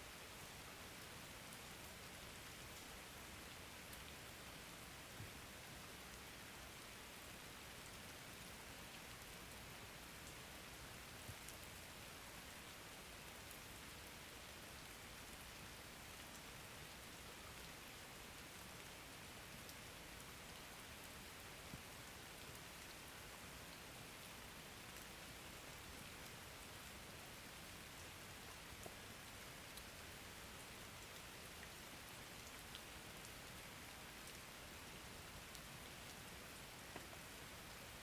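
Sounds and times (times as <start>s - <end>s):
soft steady rain: 0.0s - 38.0s.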